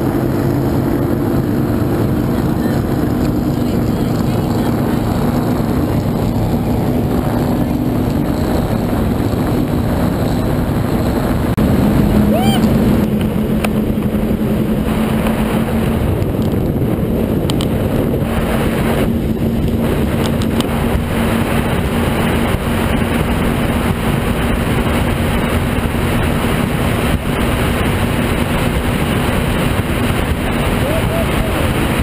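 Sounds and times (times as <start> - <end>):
powerboat engine drone: 0.0 - 32.0
water rushing past hull: 0.0 - 32.0
wind on microphone: 0.0 - 32.0.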